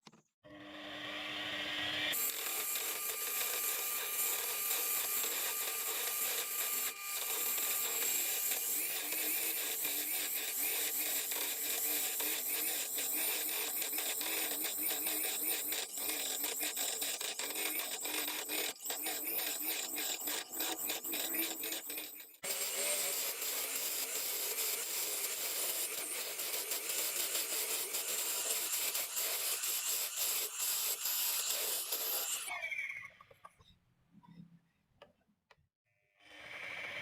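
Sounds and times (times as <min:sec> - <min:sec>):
tool scraping wood on lathe: 0:02.1 - 0:32.5.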